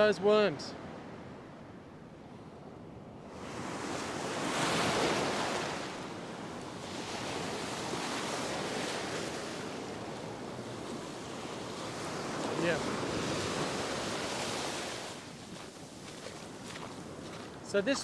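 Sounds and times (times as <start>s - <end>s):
ocean surf breaking on beach: 3.2s - 18.0s.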